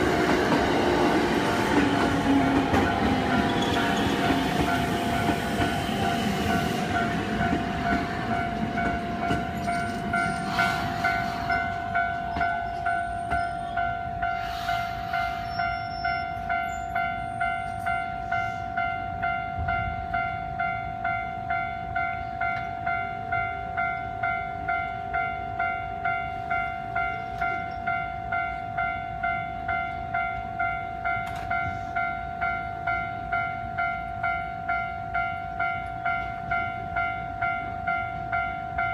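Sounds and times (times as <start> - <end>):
level-crossing warning bell: 0.0 - 38.9
train passing: 0.0 - 38.9.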